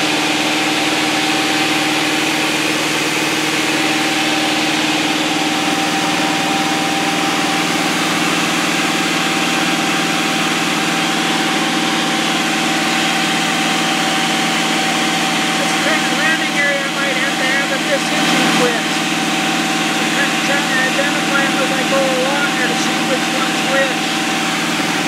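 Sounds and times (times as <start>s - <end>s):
aircraft engine and propeller droning: 0.0s - 25.0s.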